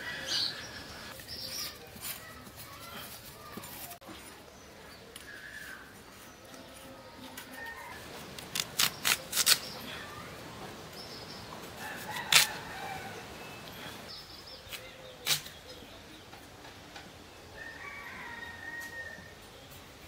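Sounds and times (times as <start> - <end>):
birds chirping: 0.0 - 8.1, 8.8 - 20.0.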